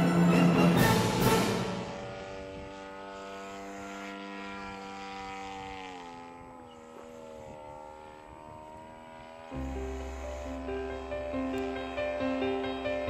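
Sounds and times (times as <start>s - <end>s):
model plane engine droning overhead: 0.0s - 13.0s.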